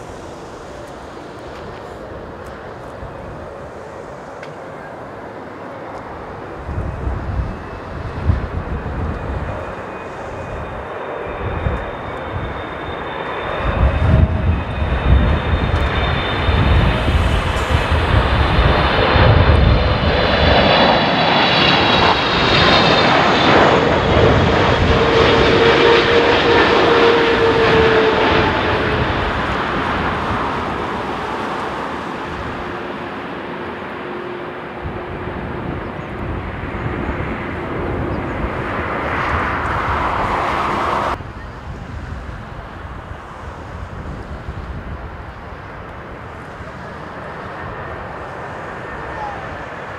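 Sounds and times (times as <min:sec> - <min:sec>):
jet engines passing overhead: 0:00.0 - 0:49.9.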